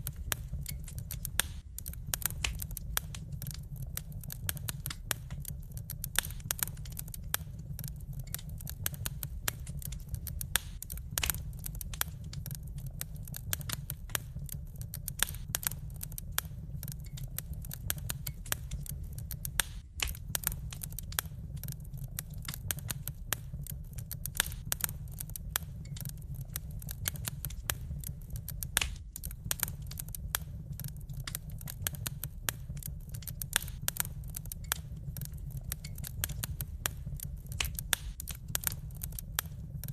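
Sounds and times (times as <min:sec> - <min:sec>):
low rumble: 0:00.0 - 0:39.9
wood fire crackling: 0:00.0 - 0:39.9.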